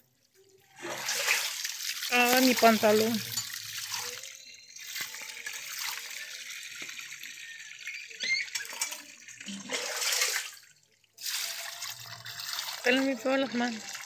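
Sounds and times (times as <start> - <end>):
water splashing onto corn: 0.8 - 6.9, 7.8 - 14.0.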